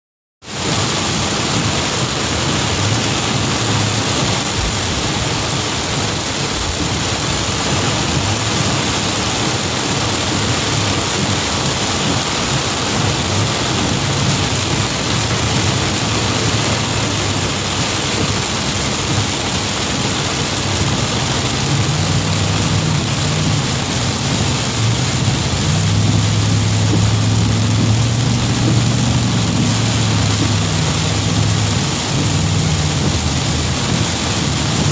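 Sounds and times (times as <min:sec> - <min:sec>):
heavy rain on car roof: 0:00.4 - 0:34.9
road and engine noise: 0:00.4 - 0:34.9.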